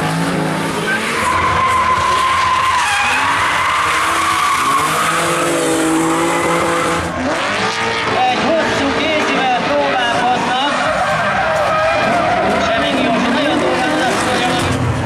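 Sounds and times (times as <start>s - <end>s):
car engines revving hard: 0.0s - 15.0s
tyres screeching: 0.8s - 7.3s, 8.1s - 14.9s.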